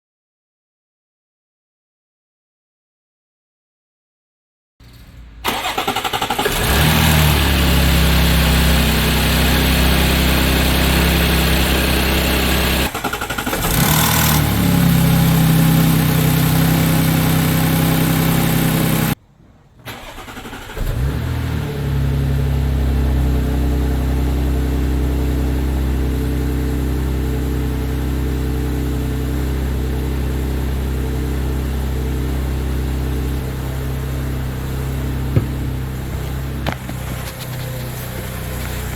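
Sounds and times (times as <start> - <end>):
car engine starting and idling: 5.0 - 19.2, 19.8 - 38.9.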